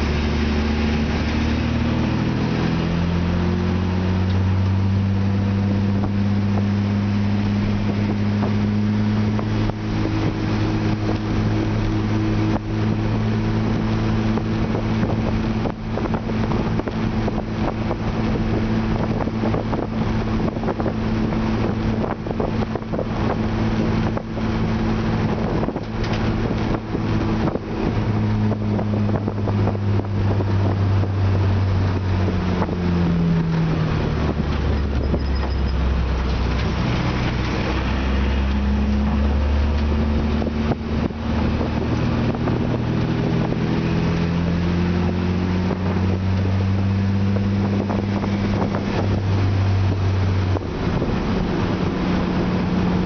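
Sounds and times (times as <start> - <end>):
car engine running hard: 0.0 - 53.0
wind noise: 0.0 - 53.0.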